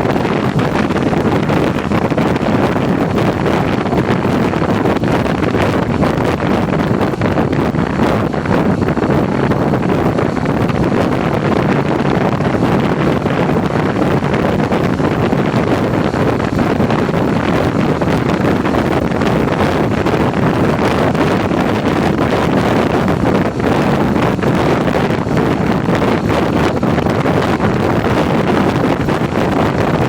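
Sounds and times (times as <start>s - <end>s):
road and engine noise: 0.0s - 30.0s
wind noise on microphone: 0.0s - 30.0s.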